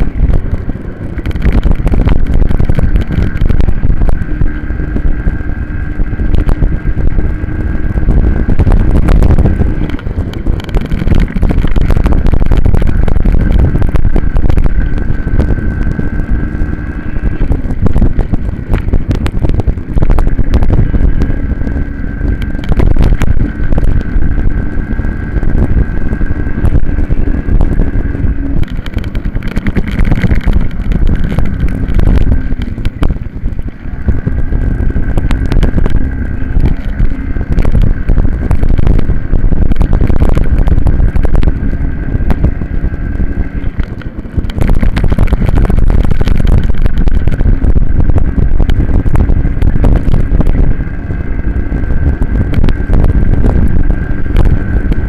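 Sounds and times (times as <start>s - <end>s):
minibike engine at high revs: 0.0s - 55.0s
wind buffeting microphone: 0.0s - 55.0s.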